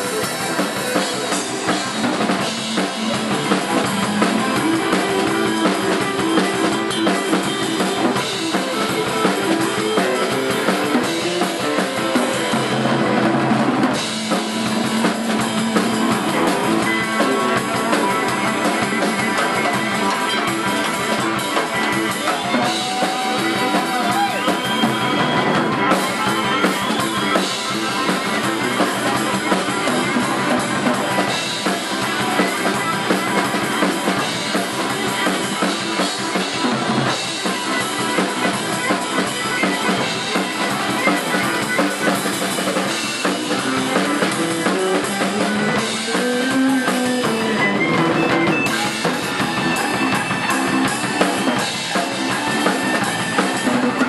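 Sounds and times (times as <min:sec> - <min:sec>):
strummed guitars: 0:00.0 - 0:54.0.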